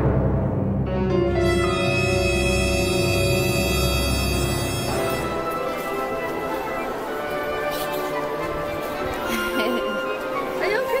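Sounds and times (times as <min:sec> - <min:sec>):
music with long held notes: 0:00.0 - 0:11.0.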